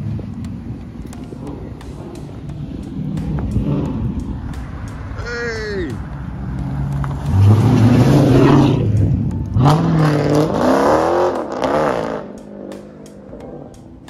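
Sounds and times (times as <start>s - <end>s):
car engine accelerating and revving: 0.0s - 5.2s, 5.8s - 14.0s.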